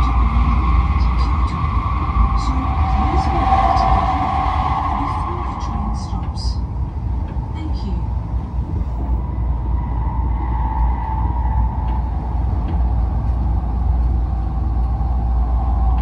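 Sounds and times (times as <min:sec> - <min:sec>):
train cabin hum: 0:00.0 - 0:16.0
train running gear rumble: 0:00.0 - 0:16.0.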